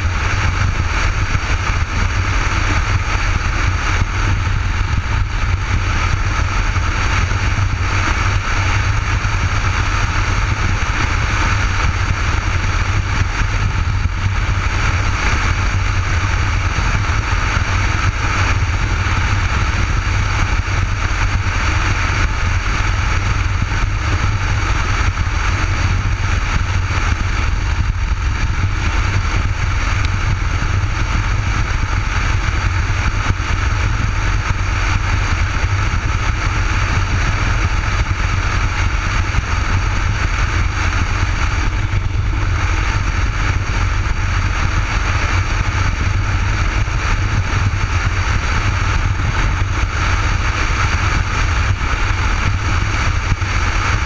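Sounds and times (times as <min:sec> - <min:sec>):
motorcycle engine drone: 0:00.0 - 0:54.0
wind rushing noise: 0:00.0 - 0:54.0.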